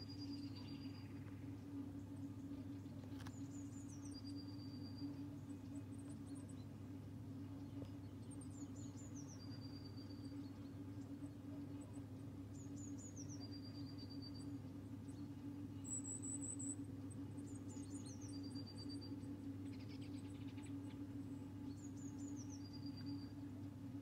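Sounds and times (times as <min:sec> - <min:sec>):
songbird singing: 0:00.0 - 0:24.0
steady low hum: 0:00.0 - 0:24.0.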